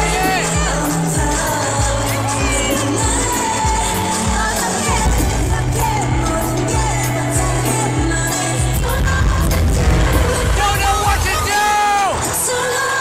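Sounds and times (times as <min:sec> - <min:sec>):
woman singing: 0:00.0 - 0:10.7, 0:12.2 - 0:13.0
heavy electronic beat: 0:00.0 - 0:12.8.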